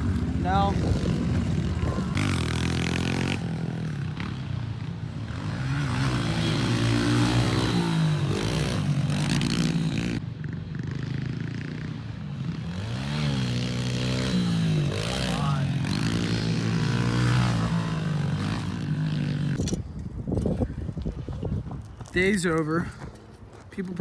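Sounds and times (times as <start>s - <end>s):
pit bike engines revving: 0.0s - 19.8s.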